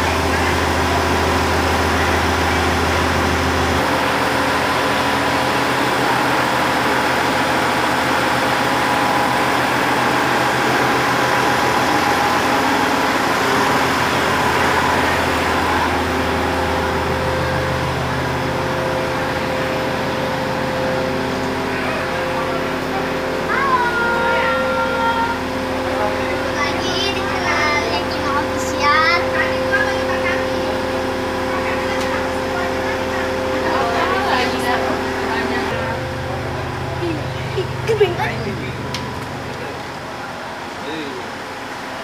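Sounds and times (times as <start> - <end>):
train diesel engine running: 0.0 - 42.0.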